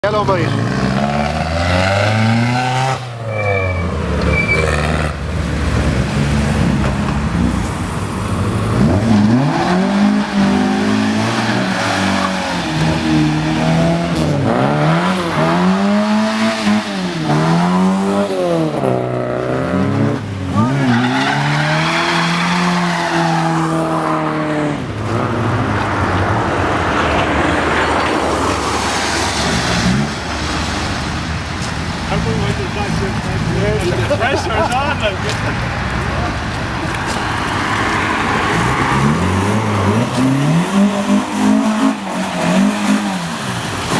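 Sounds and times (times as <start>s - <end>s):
car engines revving past: 0.2s - 43.9s.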